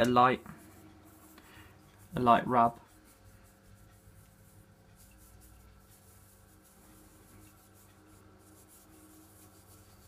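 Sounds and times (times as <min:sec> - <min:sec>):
low steady hum: 0:00.0 - 0:10.0
tissue rubbing a coin: 0:00.3 - 0:10.0.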